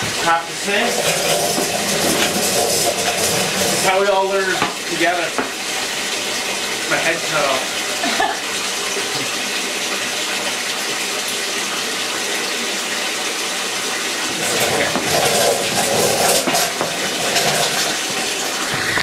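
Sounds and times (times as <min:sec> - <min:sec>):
water running into plastic tub: 0:00.0 - 0:19.0.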